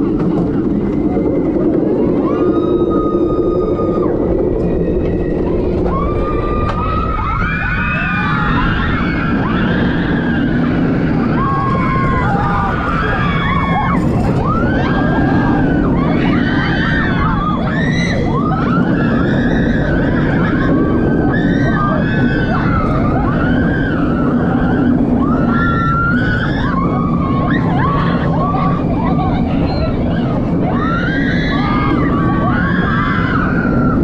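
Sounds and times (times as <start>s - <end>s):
riders screaming and yelling: 0.0s - 34.0s
roller coaster roaring on track: 0.0s - 34.0s
wind on microphone: 0.0s - 34.0s.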